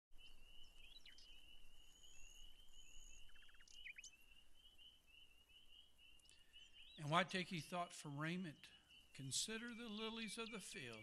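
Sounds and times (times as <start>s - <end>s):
bird chirps: 0.2s - 11.0s.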